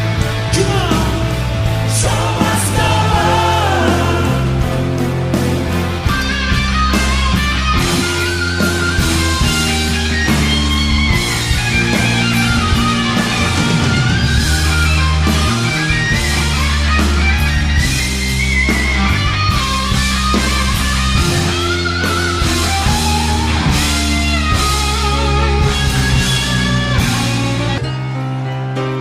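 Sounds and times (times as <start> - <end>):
rock music with guitar: 0.0 - 29.0.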